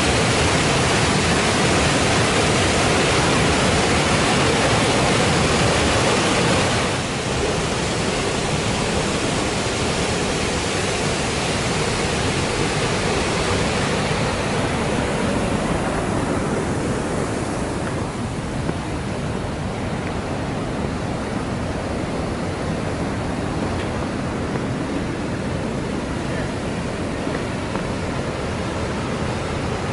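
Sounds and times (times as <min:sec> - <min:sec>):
river roaring through gorge: 0:00.0 - 0:29.9.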